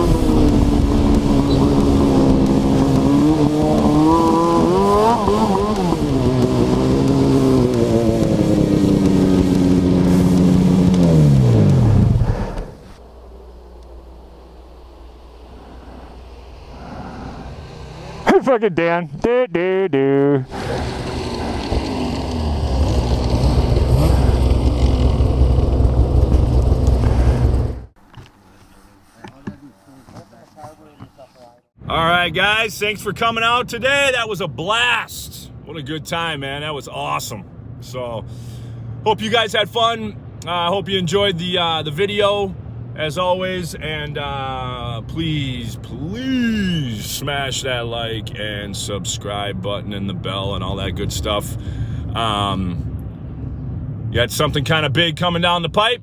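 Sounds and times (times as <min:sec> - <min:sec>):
snowmobile engine running: 0:00.0 - 0:18.4, 0:20.5 - 0:27.9, 0:31.9 - 0:52.8.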